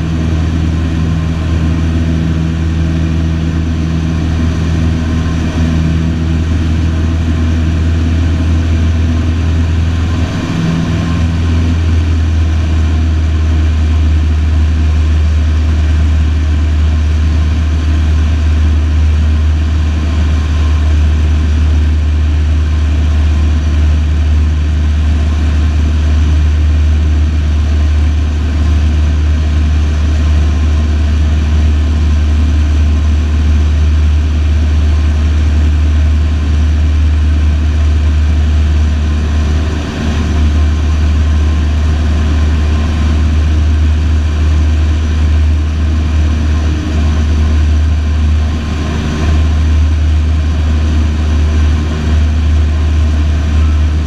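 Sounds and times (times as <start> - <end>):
light aircraft engine droning: 0.0 - 54.0.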